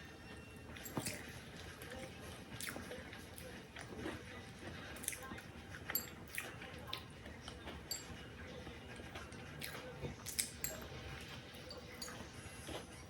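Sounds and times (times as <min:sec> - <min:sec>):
person chewing food: 0:00.7 - 0:13.0.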